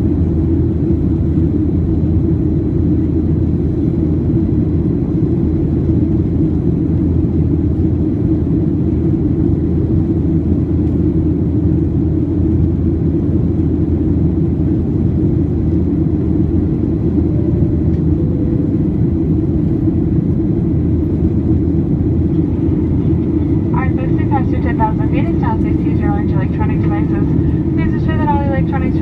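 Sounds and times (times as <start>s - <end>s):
airliner cabin engine roar: 0.0s - 29.0s.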